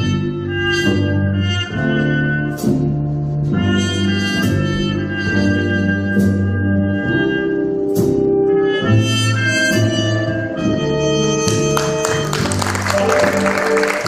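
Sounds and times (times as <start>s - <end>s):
big band playing jazz: 0.0s - 14.0s.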